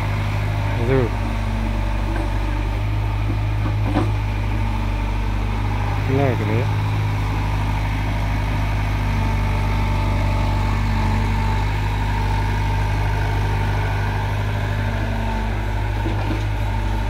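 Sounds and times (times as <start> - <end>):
excavator engine digging: 0.0 - 17.0
tractor engine idling: 0.0 - 17.0.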